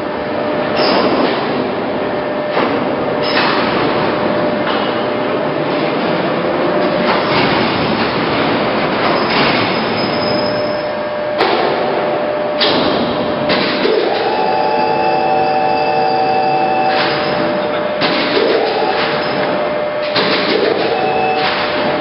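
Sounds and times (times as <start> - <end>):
steady multi-tone whine: 0.0 - 22.0.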